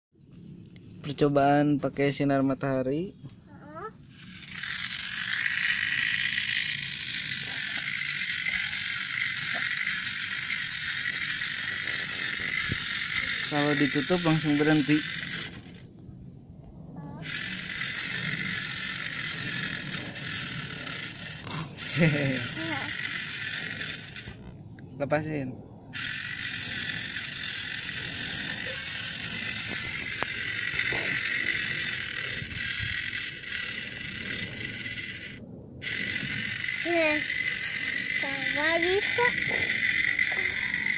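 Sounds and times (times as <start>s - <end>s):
toy motor whirring with gear rattle: 3.3s - 15.9s, 17.0s - 24.5s, 25.9s - 40.9s.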